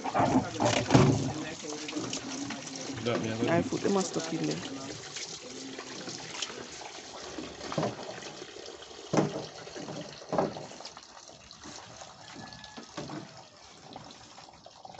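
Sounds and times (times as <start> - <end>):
hose water splashing into drum: 0.0 - 14.9.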